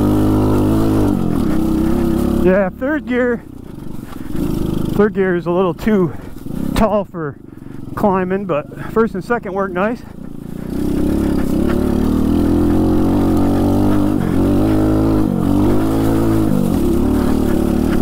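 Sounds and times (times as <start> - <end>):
motorbike engine running hard: 0.0 - 18.0.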